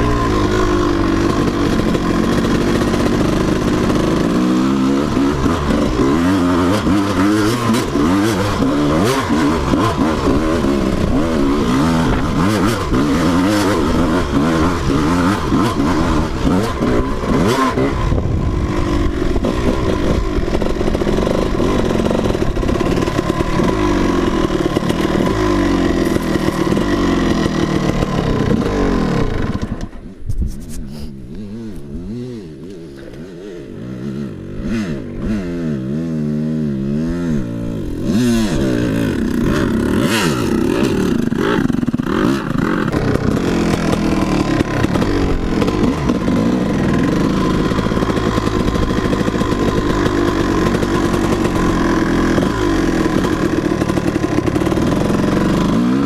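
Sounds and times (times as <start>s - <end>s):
dirt bike engine revving: 0.0s - 30.1s, 30.9s - 56.0s.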